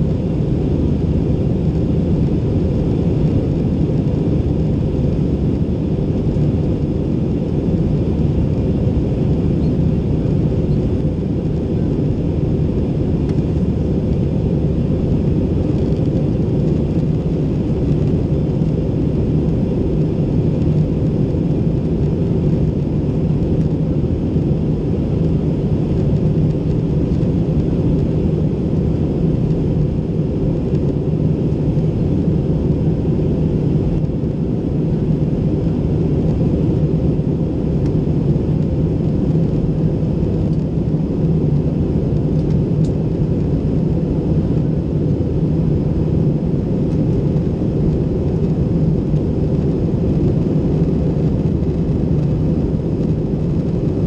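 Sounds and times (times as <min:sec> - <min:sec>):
aircraft cabin engine and airflow rush: 0:00.0 - 0:54.0
steady low hum: 0:00.0 - 0:54.0.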